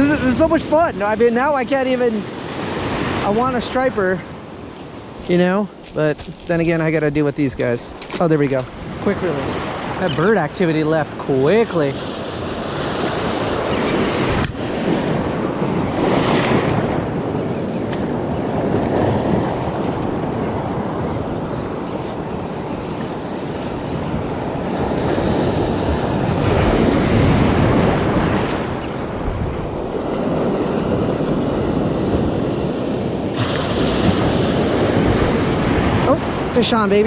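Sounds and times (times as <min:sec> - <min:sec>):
ocean surf breaking: 0:00.0 - 0:37.0.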